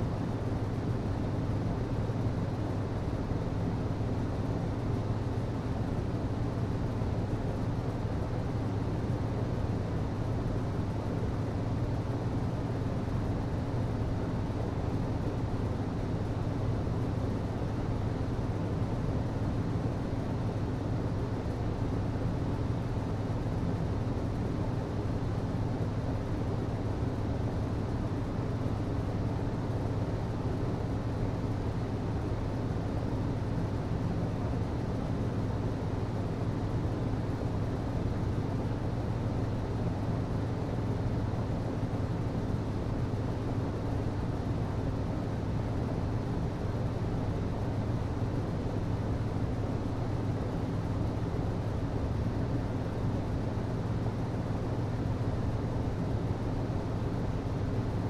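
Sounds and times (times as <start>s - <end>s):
hvac system humming: 0.0s - 58.0s.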